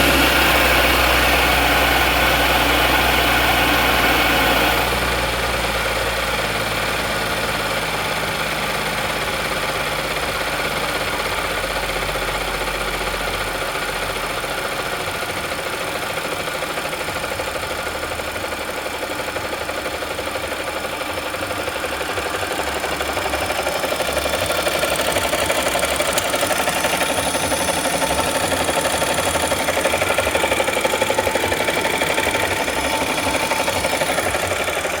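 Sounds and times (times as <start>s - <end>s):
car engine knocking: 0.0s - 35.0s.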